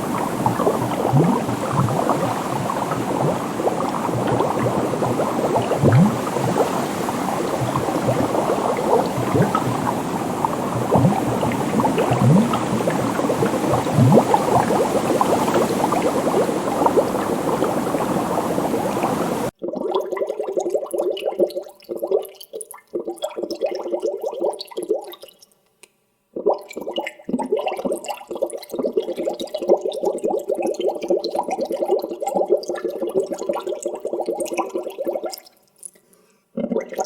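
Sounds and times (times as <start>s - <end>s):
water bubbling and gurgling: 0.0s - 25.2s, 26.4s - 35.4s, 36.6s - 37.0s.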